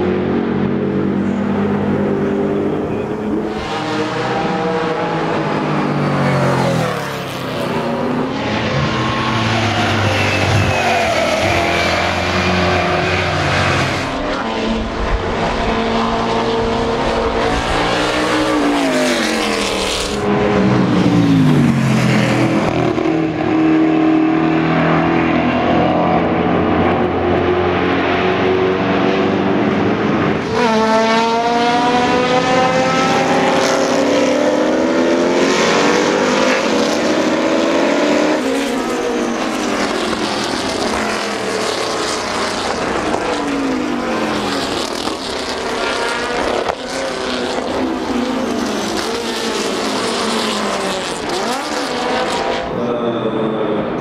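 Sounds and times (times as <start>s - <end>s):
race car engines passing: 0.0s - 54.0s.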